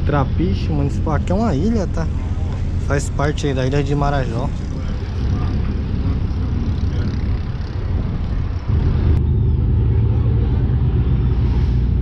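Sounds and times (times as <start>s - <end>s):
boat diesel engine drone: 0.0s - 12.0s.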